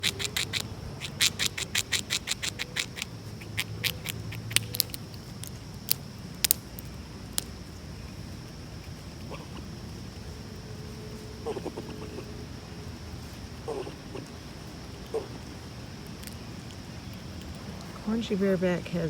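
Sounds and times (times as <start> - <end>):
squirrel gnawing nut: 0.0 - 18.4.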